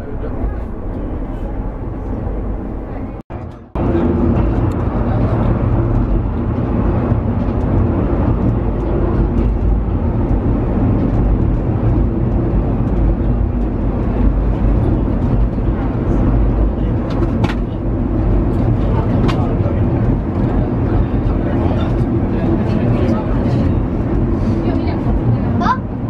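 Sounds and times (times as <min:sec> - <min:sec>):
funicular car rumble and hum: 0:00.0 - 0:26.0.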